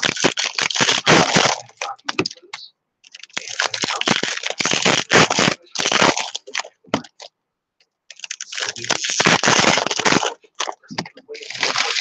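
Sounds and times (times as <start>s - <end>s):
foil wrapper crinkling: 0.0s - 2.3s, 3.1s - 7.3s, 8.1s - 12.0s.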